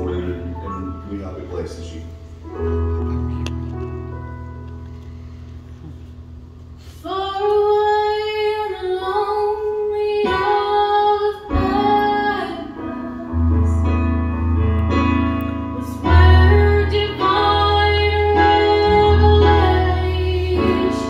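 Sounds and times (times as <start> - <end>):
gospel instrumental accompaniment: 0.0 - 21.0.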